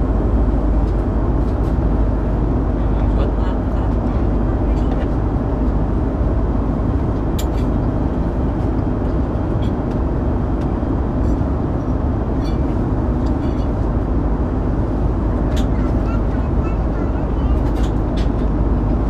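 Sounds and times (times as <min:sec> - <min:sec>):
airliner engines droning: 0:00.0 - 0:19.0.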